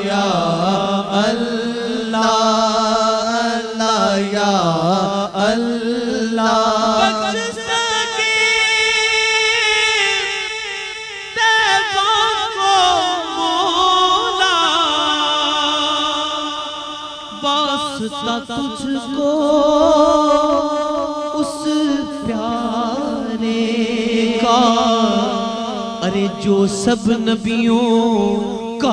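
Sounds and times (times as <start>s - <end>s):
person singing devotional song: 0.0s - 28.9s.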